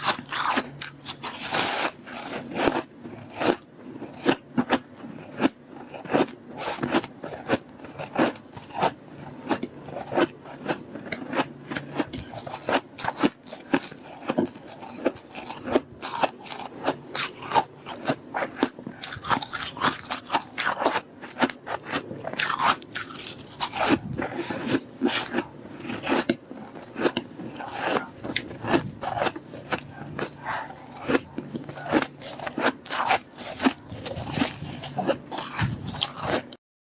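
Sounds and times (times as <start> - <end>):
frost crunching between teeth: 0.0 - 36.6.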